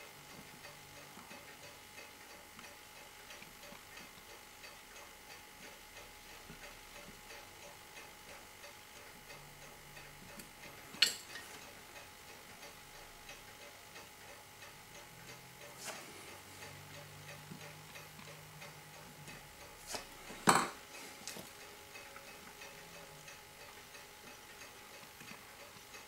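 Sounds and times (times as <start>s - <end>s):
clock ticking: 0.0s - 26.0s.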